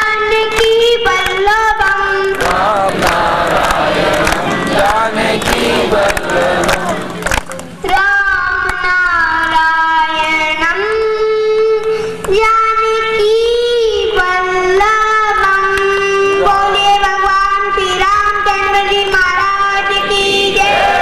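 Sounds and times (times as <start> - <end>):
child singing devotional song: 0.0 - 7.1, 7.8 - 21.0.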